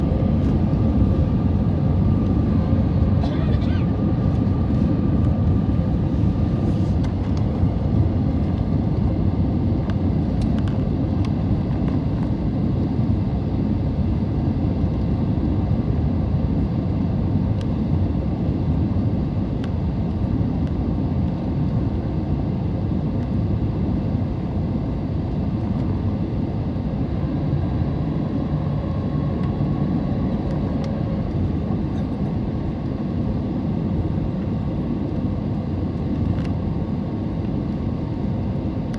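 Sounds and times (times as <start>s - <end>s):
airliner cabin rumble: 0.0s - 19.4s, 20.2s - 38.9s.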